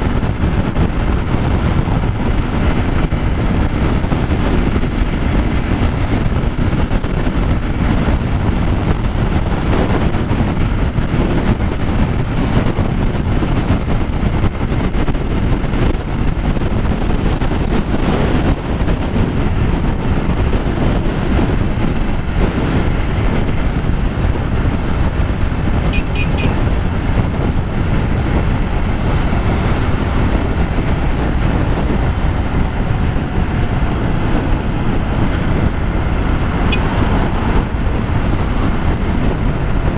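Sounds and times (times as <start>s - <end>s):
motorcycle engine: 0.0s - 39.9s
road noise: 0.0s - 39.9s
wind rushing over microphone: 0.0s - 39.9s.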